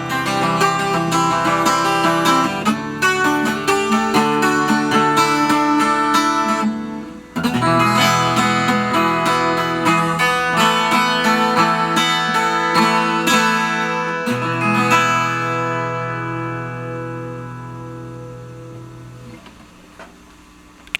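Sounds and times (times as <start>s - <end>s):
acoustic guitar: 0.0s - 20.2s.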